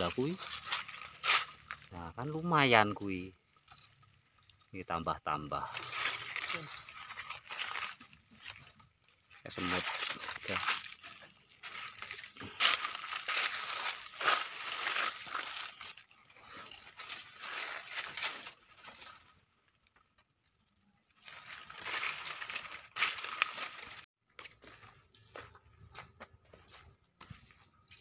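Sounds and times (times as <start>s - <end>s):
leaves and branches rustling: 0.0s - 24.1s.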